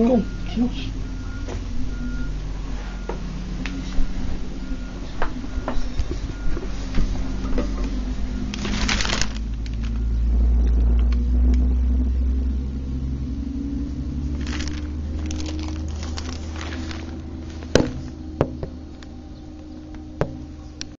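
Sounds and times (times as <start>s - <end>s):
garbage truck diesel engine rumbling: 0.0s - 20.9s.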